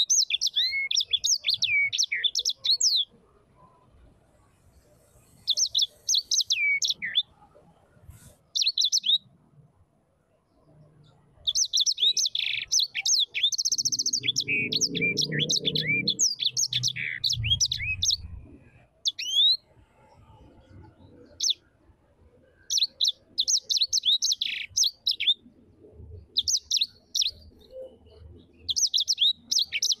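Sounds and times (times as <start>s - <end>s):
small bird chirping: 0.0s - 3.9s, 4.8s - 7.4s, 8.4s - 9.3s, 10.6s - 21.7s, 22.6s - 30.0s.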